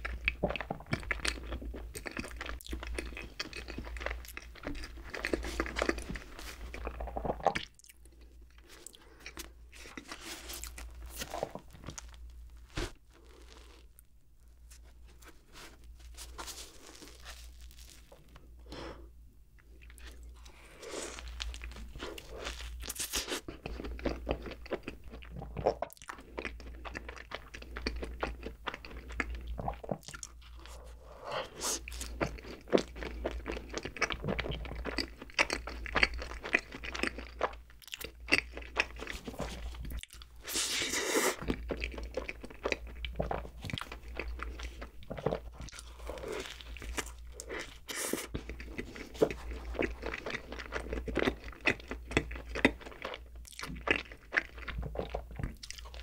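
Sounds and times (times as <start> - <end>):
crunchy bites and moist chewing: 0.0 - 56.0.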